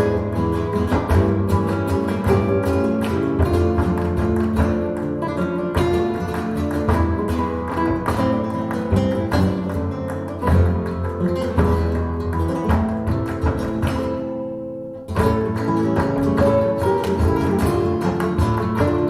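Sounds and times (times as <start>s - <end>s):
fast acoustic guitar: 0.0s - 19.0s.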